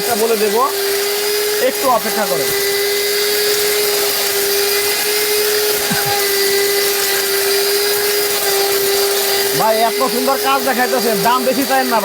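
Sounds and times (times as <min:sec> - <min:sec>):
electric spice grinder whining: 0:00.0 - 0:12.0.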